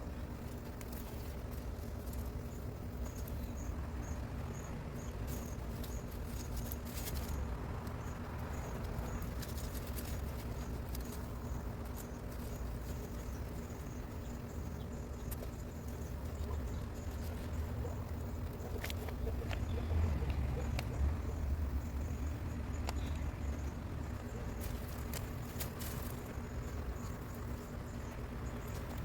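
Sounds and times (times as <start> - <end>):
insect chirping: 0.0 - 29.0
steady low rumble: 0.0 - 29.0
small clicks and rustles: 0.1 - 20.9, 22.0 - 29.0.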